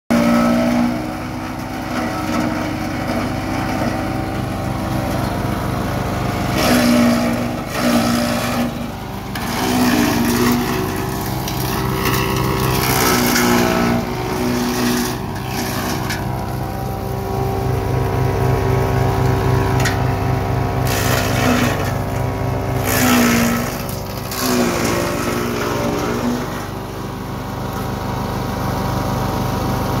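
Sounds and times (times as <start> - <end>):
branches being shredded: 0.1 - 27.9
garden chipper engine running: 0.1 - 30.0.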